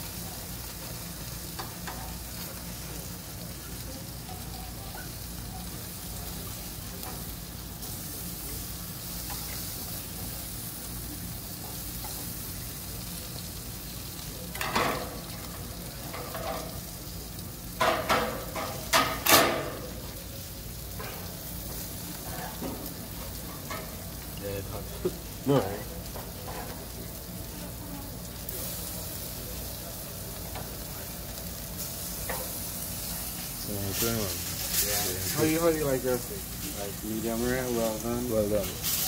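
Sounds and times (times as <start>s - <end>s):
steaks sizzling on a grill: 0.0s - 39.0s.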